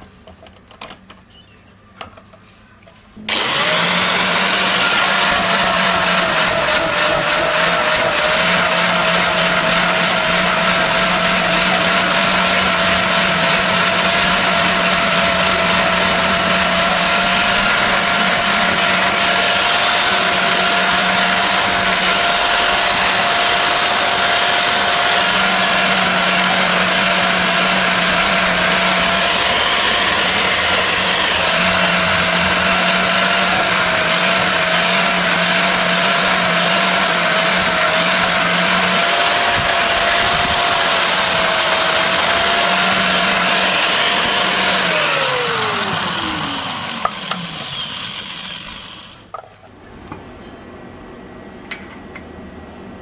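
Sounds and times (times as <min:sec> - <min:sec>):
power tool motor grinding: 0:03.2 - 0:49.3.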